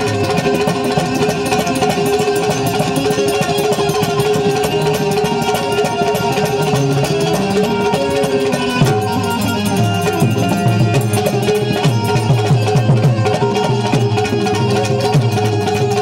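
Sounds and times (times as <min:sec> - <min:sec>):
fast steady beat: 0:00.0 - 0:16.0
held drone note: 0:00.0 - 0:16.0
plucked string melody: 0:00.0 - 0:16.0.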